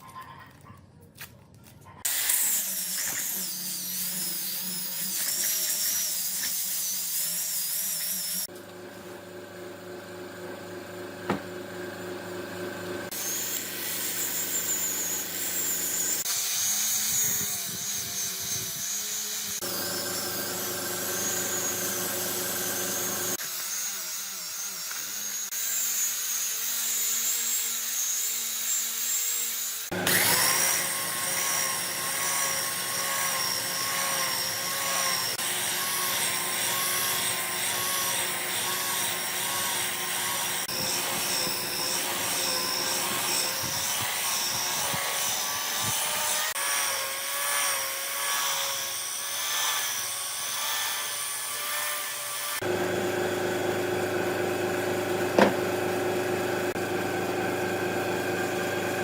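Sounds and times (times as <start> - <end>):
power tool whining on wood: 2.1 - 8.9, 10.0 - 59.0.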